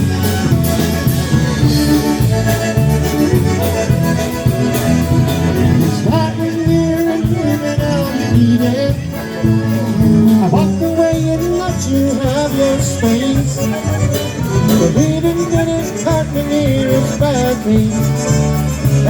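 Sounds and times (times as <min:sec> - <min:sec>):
polka band playing: 0:00.0 - 0:19.0.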